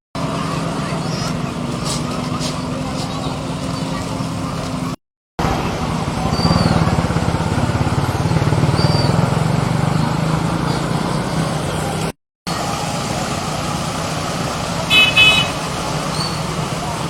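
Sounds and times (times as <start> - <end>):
quiet engine and road noise: 0.2 - 17.0
small engine puttering: 0.3 - 17.0.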